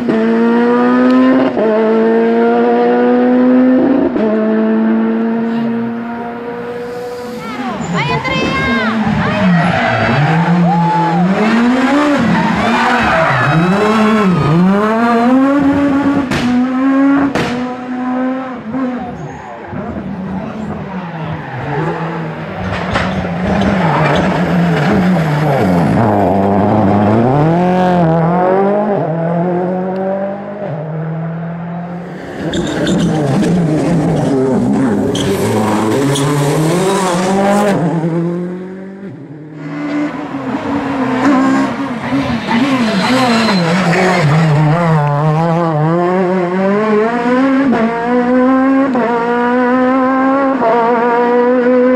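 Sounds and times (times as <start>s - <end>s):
rally car engine pulling hard: 0.0s - 51.9s.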